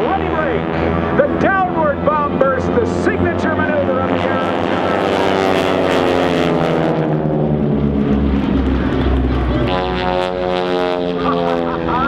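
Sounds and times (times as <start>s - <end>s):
deep rumble: 0.0s - 12.0s
propeller planes flying: 0.0s - 12.0s.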